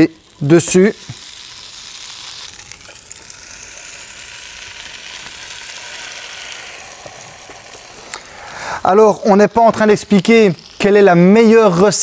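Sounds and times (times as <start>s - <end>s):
waffle dough sizzling: 0.0s - 12.0s.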